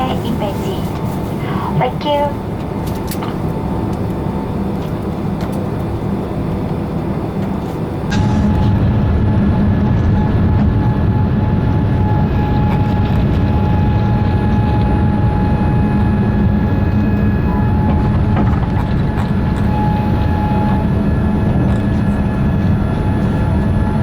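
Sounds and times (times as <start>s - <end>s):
faint steady whine: 0.0s - 24.0s
jet engines and airflow rumble: 0.0s - 24.0s.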